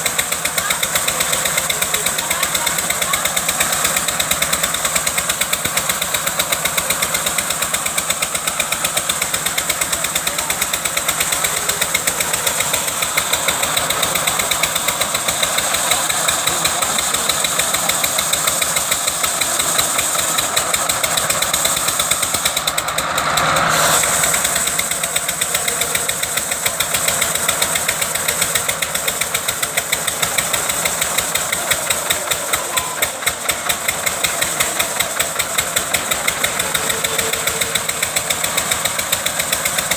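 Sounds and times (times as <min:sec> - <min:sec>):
wood-cutting machine engine pulsing: 0:00.0 - 0:39.9.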